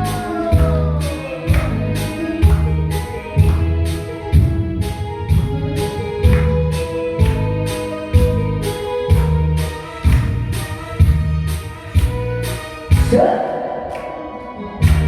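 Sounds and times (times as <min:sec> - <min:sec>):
trot backing music: 0:00.0 - 0:13.5.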